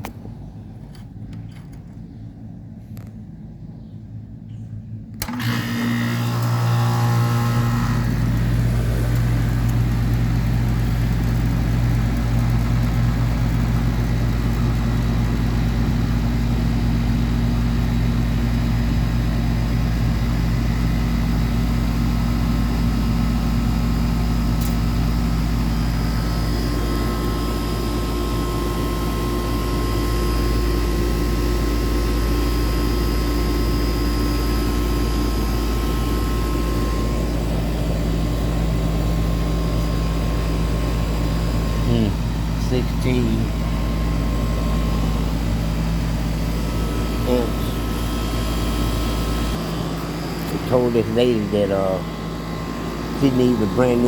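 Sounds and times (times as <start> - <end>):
air conditioner unit humming: 0.0 - 54.0.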